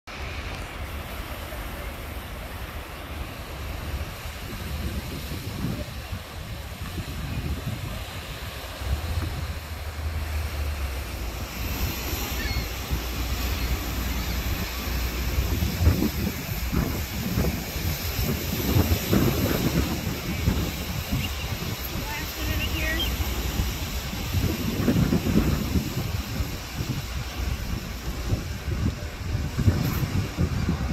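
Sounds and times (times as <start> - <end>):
surf breaking on beach: 0.1 - 30.9
wind buffeting microphone: 0.3 - 30.9.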